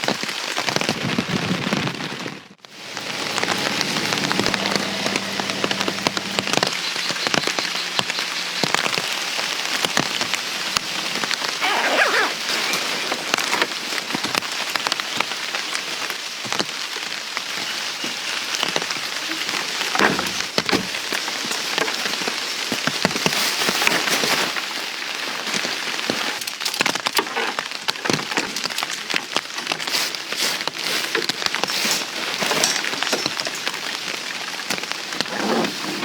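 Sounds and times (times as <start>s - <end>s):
heavy rain: 0.0s - 36.0s
raindrops striking a surface: 0.0s - 36.0s.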